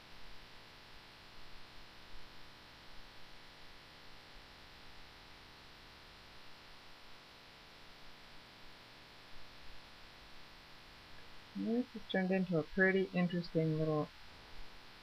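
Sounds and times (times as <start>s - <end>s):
faint hiss with low hum: 0.0s - 15.0s.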